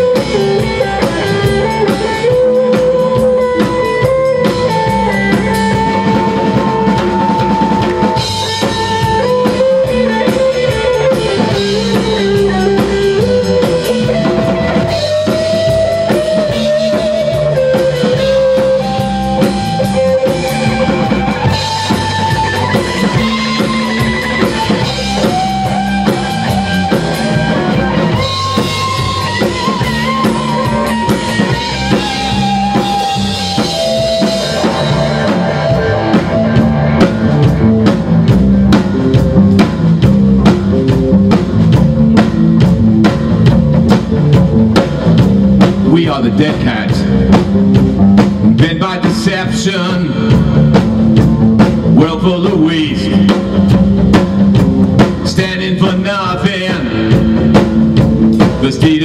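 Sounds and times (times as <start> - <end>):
drum kit: 0.0 - 59.0
lead electric guitar bending notes: 0.0 - 59.0
rhythm guitar: 0.0 - 59.0.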